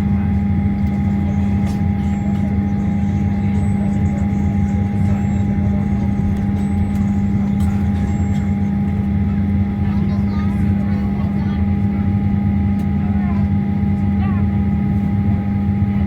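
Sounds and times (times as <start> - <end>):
airliner cabin hum: 0.0 - 16.0
thin steady whine: 0.0 - 16.0.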